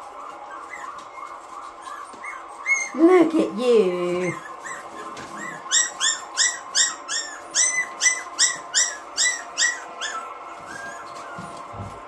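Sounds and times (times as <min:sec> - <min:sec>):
puppy yipping: 0:00.2 - 0:03.0, 0:04.3 - 0:11.7.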